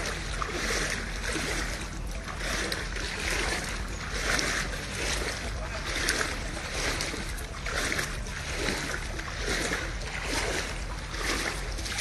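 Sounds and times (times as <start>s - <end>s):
wading through water: 0.0s - 12.0s.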